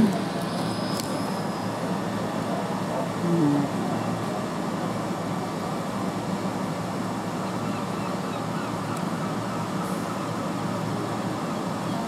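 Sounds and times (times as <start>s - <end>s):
electric train humming at platform: 0.0s - 12.0s.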